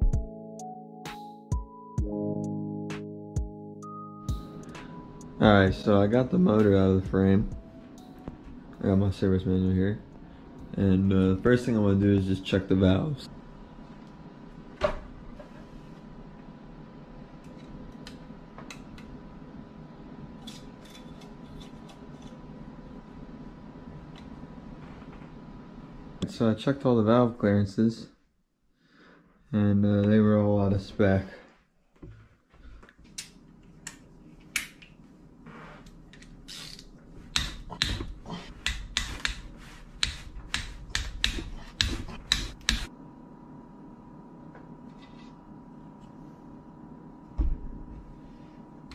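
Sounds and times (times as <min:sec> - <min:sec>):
steady background hum: 0:03.4 - 0:48.9.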